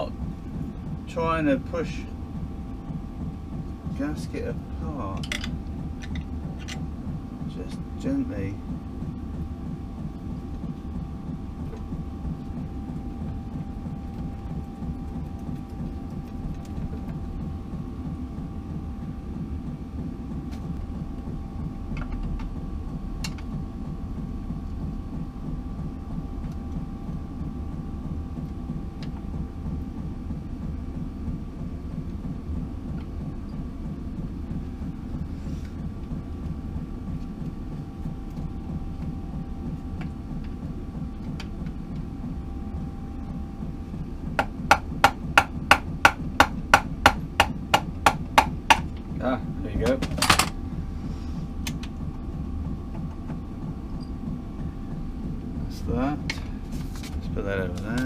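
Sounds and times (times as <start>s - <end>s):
machine humming and rumbling: 0.0s - 58.0s.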